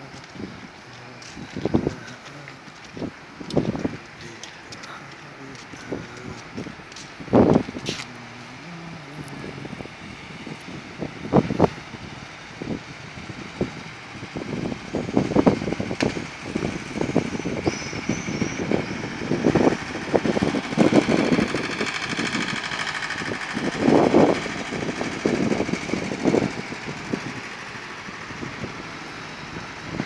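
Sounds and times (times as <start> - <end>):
barge diesel engine running: 0.0 - 30.0
wind buffeting microphone: 0.0 - 30.0.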